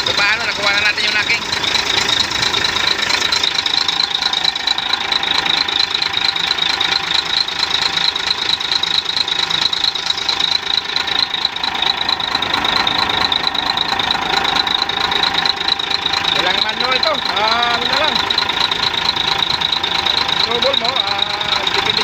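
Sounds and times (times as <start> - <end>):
diesel engine clattering: 0.0 - 22.0.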